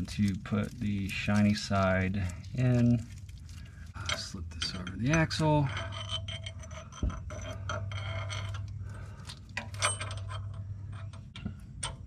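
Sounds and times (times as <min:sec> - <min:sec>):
metallic clicks and scrapes: 0:00.0 - 0:12.0
steady low hum: 0:00.0 - 0:12.0.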